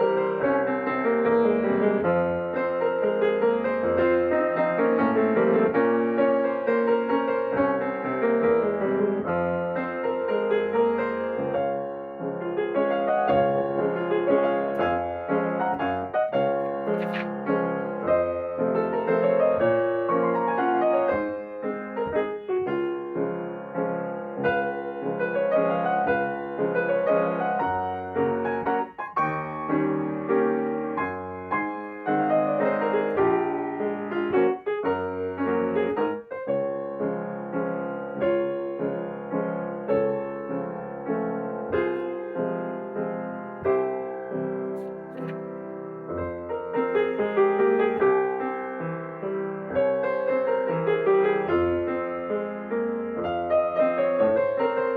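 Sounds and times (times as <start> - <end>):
slow gentle solo piano: 0.0 - 54.9.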